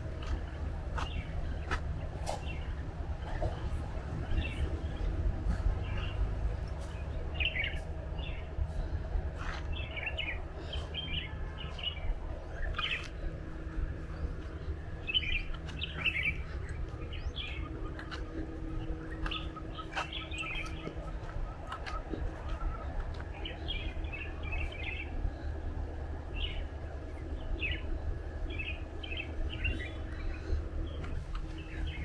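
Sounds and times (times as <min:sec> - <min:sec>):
birds chirping: 0:00.0 - 0:32.0
low steady rumble: 0:00.0 - 0:32.0.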